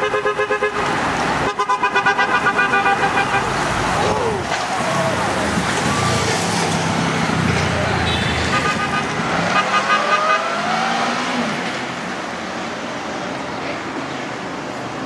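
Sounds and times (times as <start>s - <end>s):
traffic: 0.0s - 15.0s
motorcycle engines: 0.4s - 15.0s.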